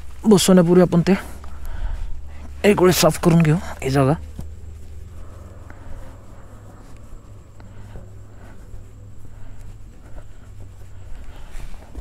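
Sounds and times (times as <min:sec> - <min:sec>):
cloth rubbing on metal: 0:00.0 - 0:12.0
low steady rumble: 0:00.0 - 0:12.0
small ticks: 0:01.3 - 0:02.5, 0:03.1 - 0:12.0.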